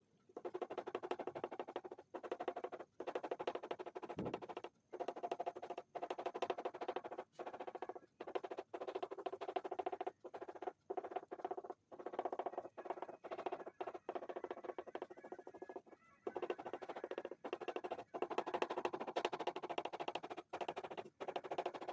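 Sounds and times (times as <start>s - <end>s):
pastel stick scribbling on paper: 0.4s - 21.9s.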